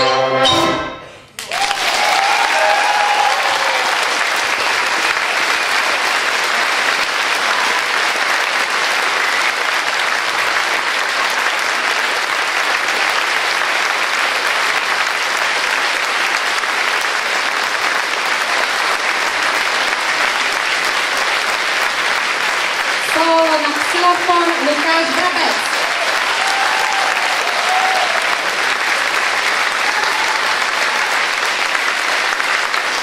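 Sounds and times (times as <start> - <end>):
audience applauding: 1.4 - 33.0.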